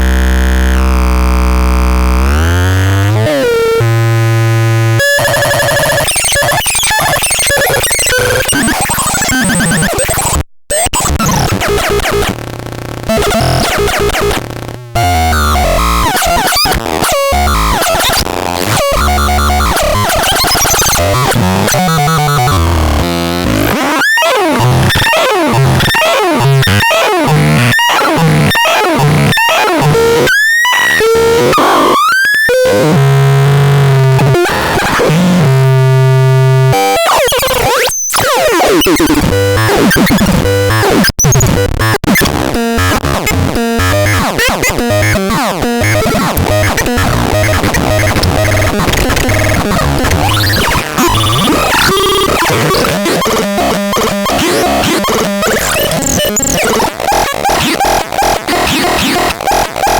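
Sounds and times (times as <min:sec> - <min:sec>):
glitchy electronic noise: 0:00.8 - 0:59.9.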